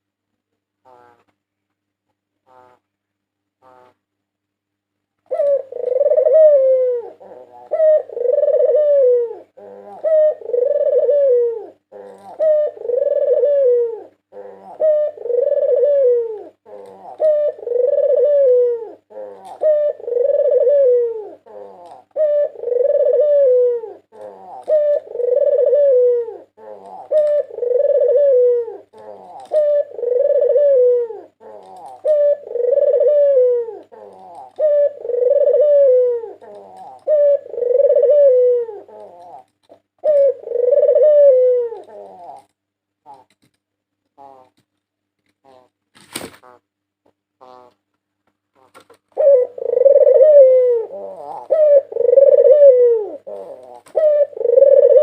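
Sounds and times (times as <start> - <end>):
dove cooing: 5.2 - 43.5, 44.2 - 44.6, 47.4 - 47.8, 48.6 - 55.0.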